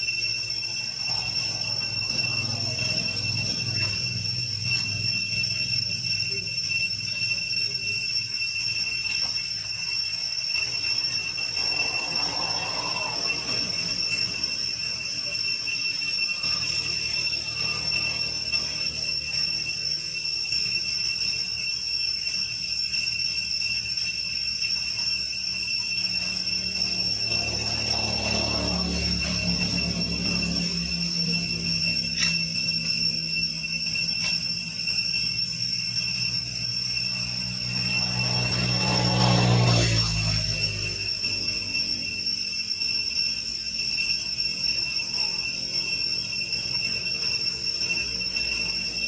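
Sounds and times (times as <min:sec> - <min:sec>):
high-pitched drone of insects: 0:00.0 - 0:49.0.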